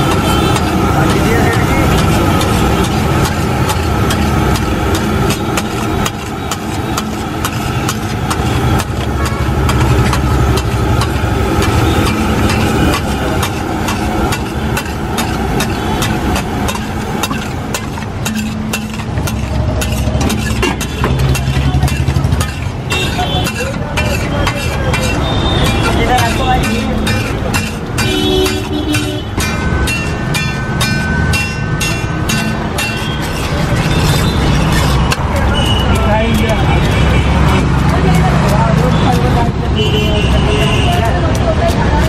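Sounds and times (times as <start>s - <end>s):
metal spatula scraping griddle: 0.0s - 38.4s
street traffic rumble: 0.0s - 42.0s.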